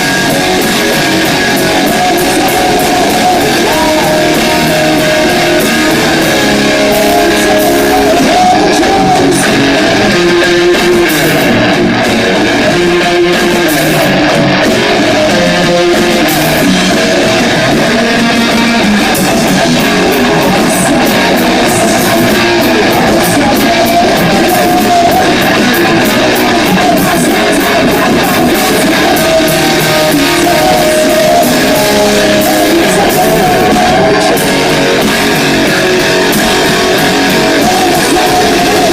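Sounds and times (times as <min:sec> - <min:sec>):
electric guitar: 0:00.0 - 0:38.9
rock band playing live: 0:00.0 - 0:38.9.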